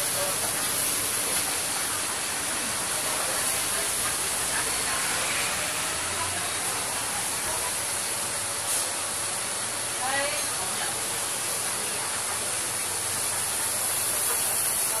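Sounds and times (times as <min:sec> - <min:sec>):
faint chatter of people: 0:00.0 - 0:15.0.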